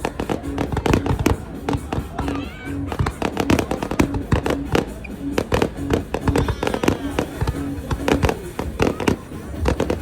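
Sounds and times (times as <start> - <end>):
fireworks bangs and crackles: 0.0 - 10.0
music playing: 0.0 - 10.0.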